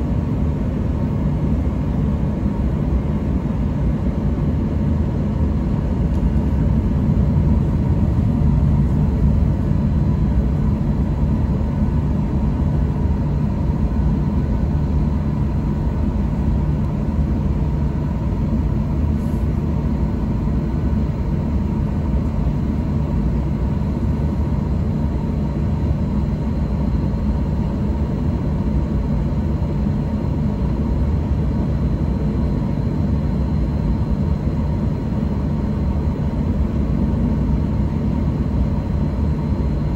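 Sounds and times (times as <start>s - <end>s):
air conditioning: 0.0s - 39.9s
faint steady whine: 0.0s - 39.9s
low drone of idling jet engines: 0.0s - 39.9s.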